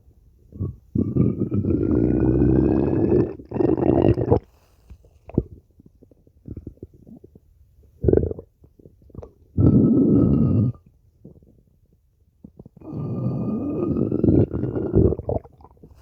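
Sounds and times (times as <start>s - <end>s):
stomach growling: 0.5s - 16.0s.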